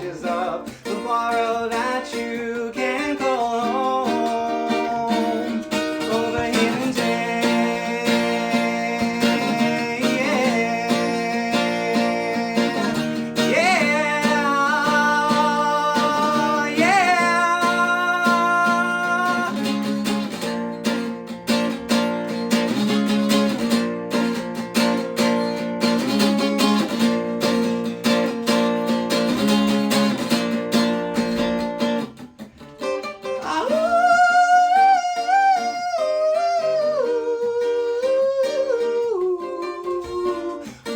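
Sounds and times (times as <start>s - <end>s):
strummed string instrument chords: 0.0s - 36.7s.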